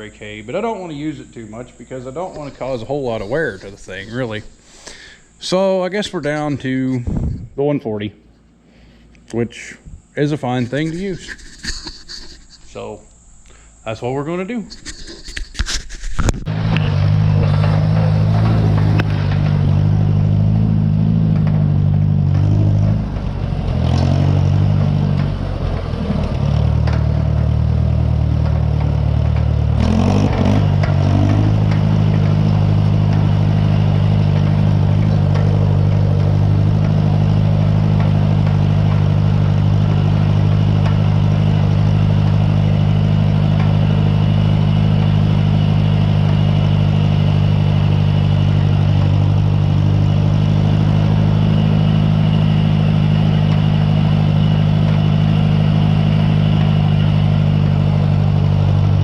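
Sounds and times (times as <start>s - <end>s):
tractor engine running: 0.0s - 7.6s, 8.5s - 59.0s.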